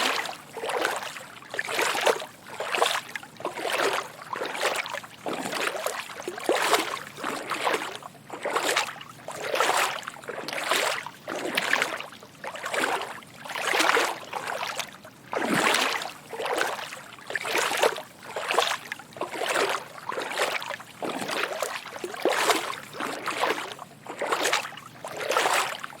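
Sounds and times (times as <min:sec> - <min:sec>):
footsteps wading through water: 0:00.0 - 0:26.0.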